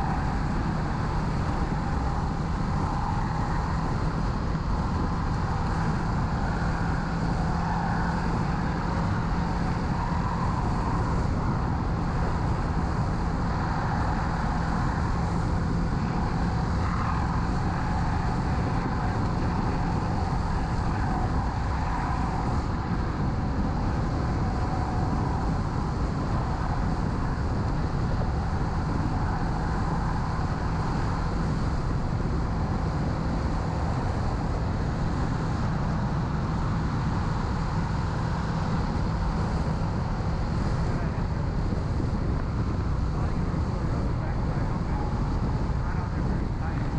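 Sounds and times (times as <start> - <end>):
wind rush over microphone: 0.0 - 46.9.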